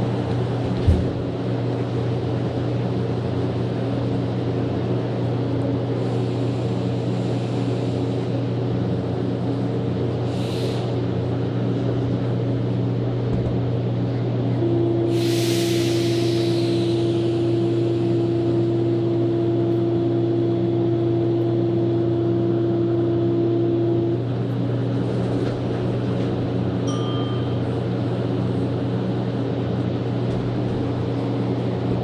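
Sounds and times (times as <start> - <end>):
metro car motor hum: 0.0 - 32.0.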